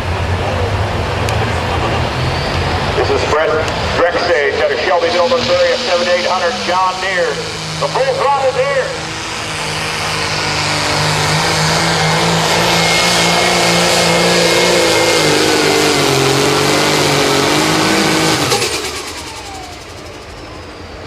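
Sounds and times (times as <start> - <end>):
high turbo whine: 0.0 - 21.0
tractor diesel engine at full throttle: 0.0 - 21.0.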